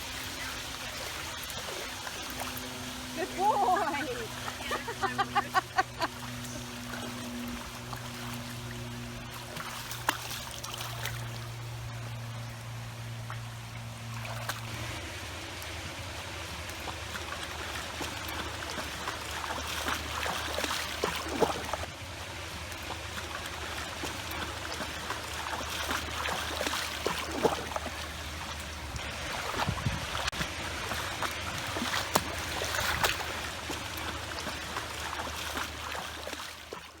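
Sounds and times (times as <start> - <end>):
steady low hum: 0.0 - 36.4
pool water splashing and trickling: 0.0 - 37.0.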